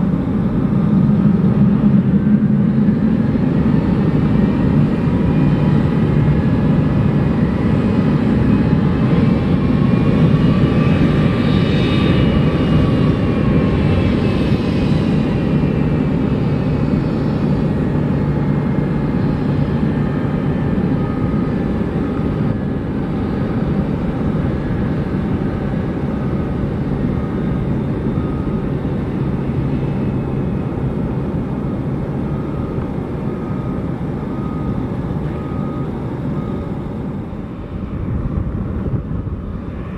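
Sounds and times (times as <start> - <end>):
jet engine whine: 0.0 - 39.9
jet engines roaring: 0.0 - 39.9.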